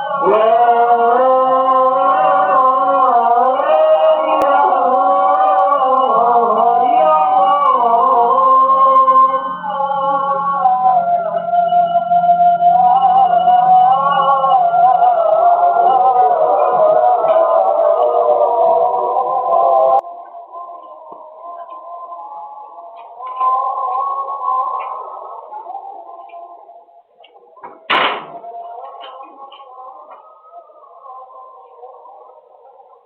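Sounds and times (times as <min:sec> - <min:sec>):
wavering sung melody: 0:00.0 - 0:33.0.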